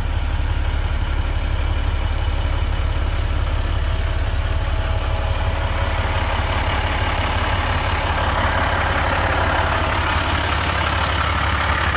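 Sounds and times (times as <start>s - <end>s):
diesel truck idling: 0.0s - 11.9s.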